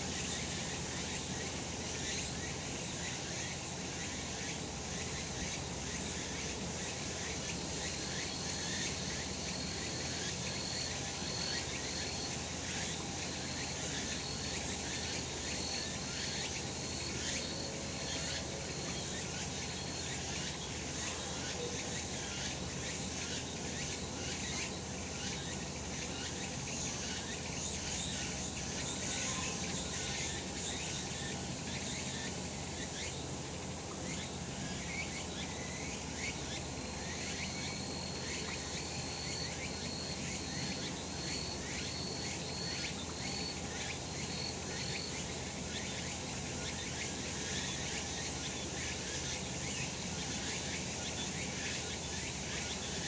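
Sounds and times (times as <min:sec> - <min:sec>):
cicadas singing: 0:00.0 - 0:53.0.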